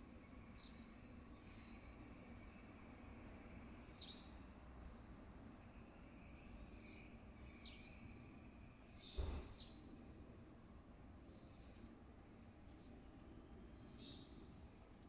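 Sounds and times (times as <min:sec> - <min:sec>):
faint birds chirping: 0:00.2 - 0:12.7.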